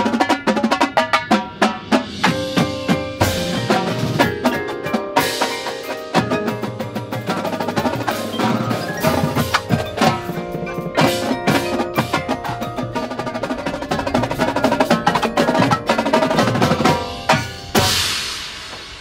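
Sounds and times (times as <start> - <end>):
cymbals: 0.0 - 19.0
snare and tenor drums: 0.0 - 19.0
vibraphone and marimba notes: 2.2 - 18.0.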